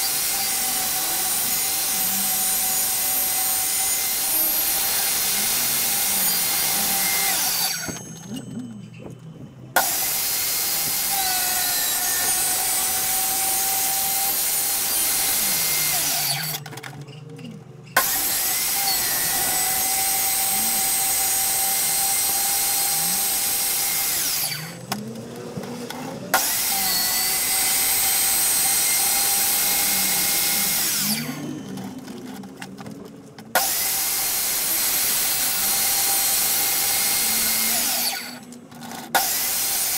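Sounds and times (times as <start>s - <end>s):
table saw motor whining: 0.0s - 39.9s.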